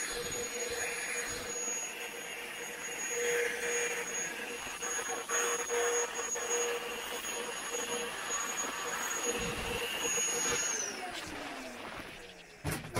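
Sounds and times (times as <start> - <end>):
vacuum cleaner running: 0.0 - 12.9.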